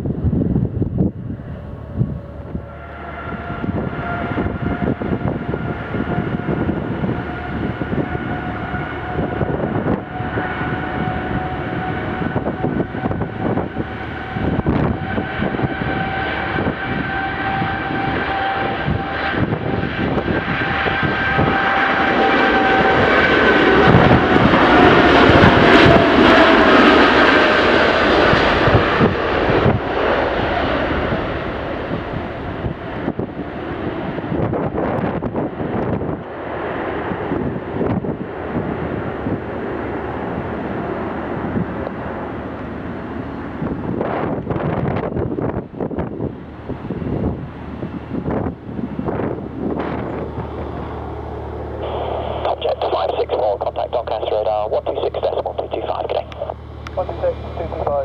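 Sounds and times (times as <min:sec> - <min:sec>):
jet engines roaring on takeoff: 0:00.0 - 0:58.0.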